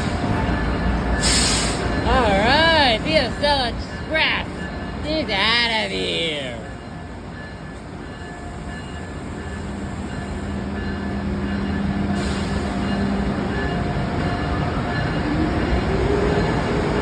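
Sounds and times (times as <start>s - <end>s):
train rumble and wheel noise: 0.0s - 17.0s.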